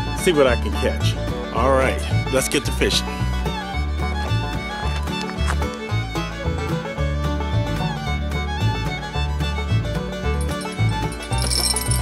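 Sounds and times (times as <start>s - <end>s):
upbeat bluegrass tune with fiddle: 0.0s - 11.9s.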